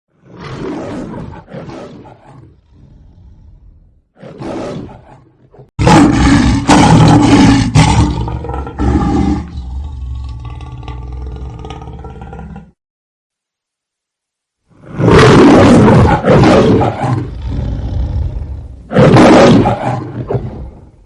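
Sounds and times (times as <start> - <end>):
lion growling and roaring: 0.1 - 12.8, 14.8 - 21.0.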